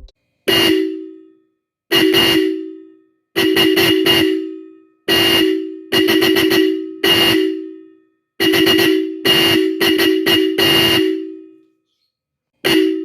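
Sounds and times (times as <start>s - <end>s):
car horn honking: 0.0s - 11.7s, 12.6s - 13.0s.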